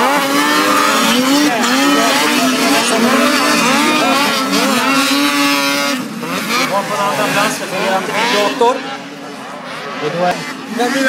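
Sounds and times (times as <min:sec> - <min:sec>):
snowmobile engines revving: 0:00.0 - 0:11.0.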